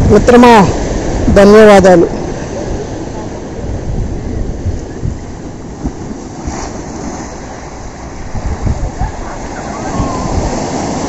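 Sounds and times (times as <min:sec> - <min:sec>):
sea surf washing on beach: 0:00.0 - 0:11.0
wind buffeting microphone: 0:00.0 - 0:11.0.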